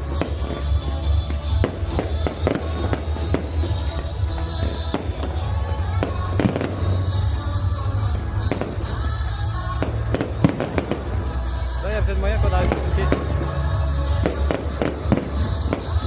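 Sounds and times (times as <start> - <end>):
fireworks bangs and crackles: 0.0 - 16.0
show music with heavy bass: 0.0 - 16.0.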